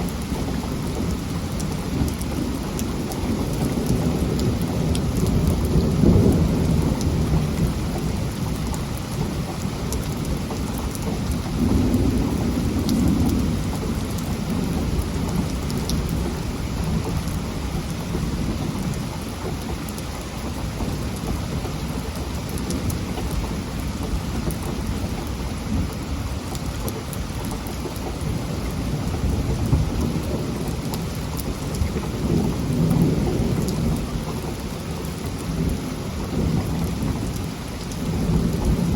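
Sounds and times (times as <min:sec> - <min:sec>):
heavy rain falling: 0:00.0 - 0:38.9
thunder rumbling low: 0:00.1 - 0:38.9.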